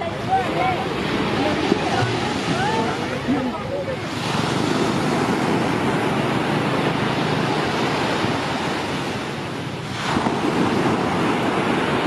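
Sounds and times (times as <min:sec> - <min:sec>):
waves breaking on sandy beach: 0:00.0 - 0:12.0
wind rumble on microphone: 0:00.0 - 0:12.0.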